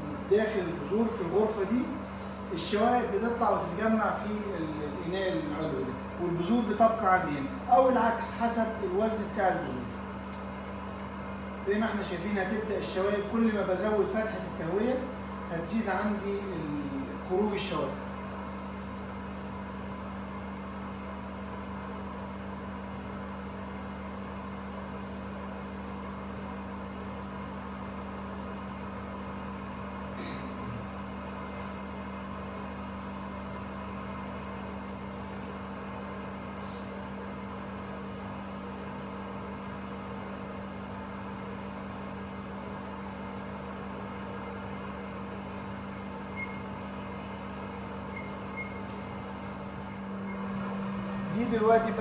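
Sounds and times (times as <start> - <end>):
fan motor humming: 0.0 - 52.0.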